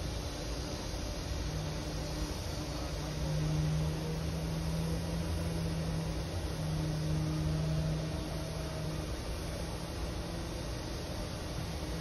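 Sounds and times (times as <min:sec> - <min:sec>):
city traffic rumble: 0:00.0 - 0:12.0
low hum: 0:00.0 - 0:12.0.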